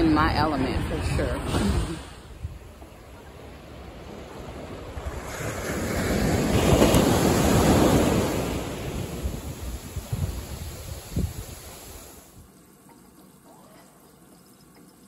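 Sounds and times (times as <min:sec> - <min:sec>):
wind buffeting microphone: 0:00.0 - 0:12.2
ocean surf breaking: 0:00.0 - 0:12.4.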